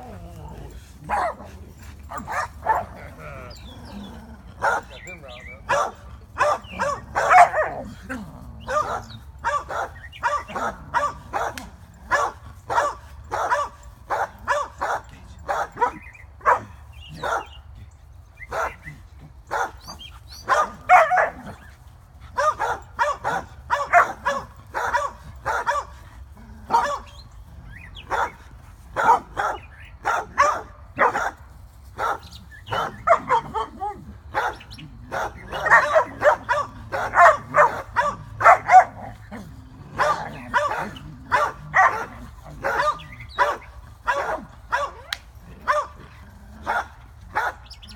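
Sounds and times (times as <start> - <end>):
dog barking: 1.0 - 3.4, 4.6 - 8.0, 8.6 - 17.6, 18.5 - 21.7, 22.4 - 26.0, 26.6 - 27.2, 27.8 - 31.4, 32.0 - 47.9.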